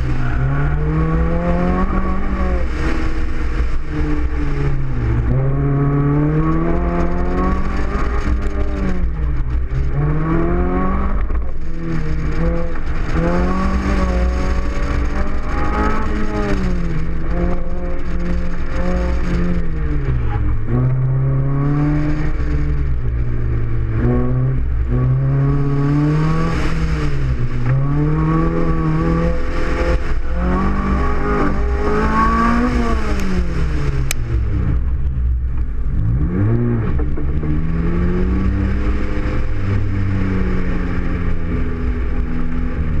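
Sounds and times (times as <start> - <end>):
low rumble: 0.0 - 43.0
sports car engine revving: 0.0 - 43.0.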